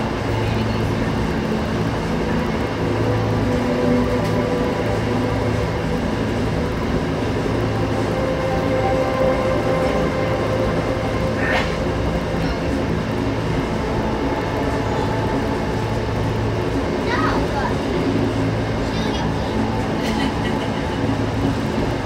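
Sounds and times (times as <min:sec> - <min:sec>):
continuous hum: 0:00.0 - 0:22.0
train wheels rumbling on rail: 0:00.0 - 0:22.0.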